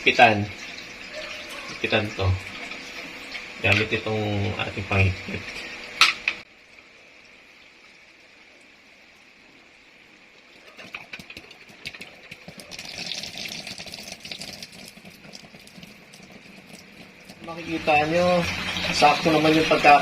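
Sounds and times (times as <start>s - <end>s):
water running through filter: 0.0s - 5.9s, 6.6s - 20.0s.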